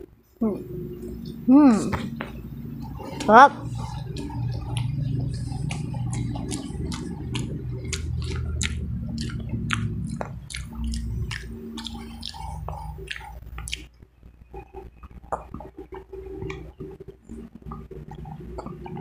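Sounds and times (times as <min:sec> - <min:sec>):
person chewing crunchy food: 0:02.8 - 0:19.0.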